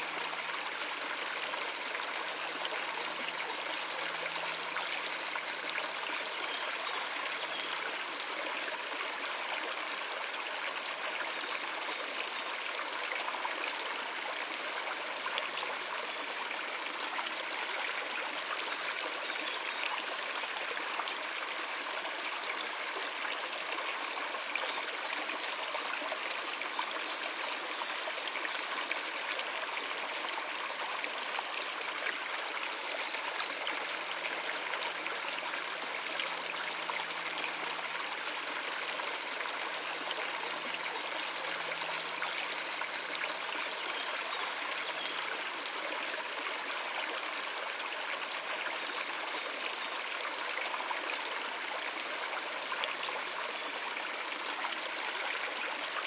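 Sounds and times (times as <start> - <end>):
water running over rocks: 0.0 - 56.0.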